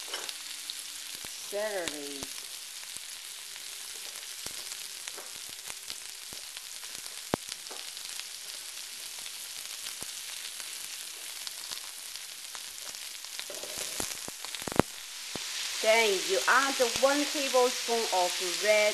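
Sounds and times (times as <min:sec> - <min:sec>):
vegetables sizzling in hot oil: 0:00.0 - 0:18.9.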